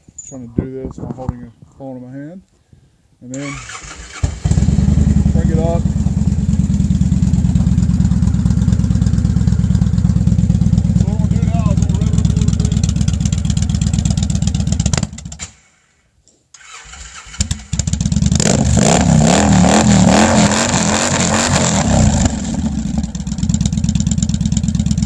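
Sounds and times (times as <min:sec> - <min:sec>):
motorcycle engine revving: 0:03.5 - 0:15.4, 0:16.6 - 0:25.0.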